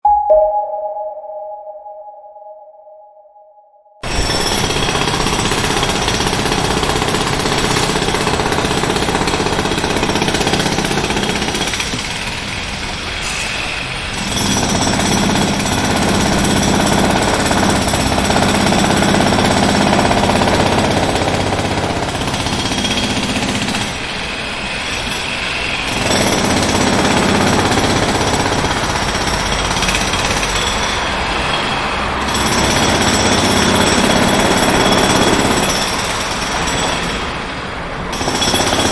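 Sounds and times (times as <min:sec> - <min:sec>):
jackhammer hammering: 0:04.0 - 0:13.0, 0:14.1 - 0:31.0, 0:32.2 - 0:38.9.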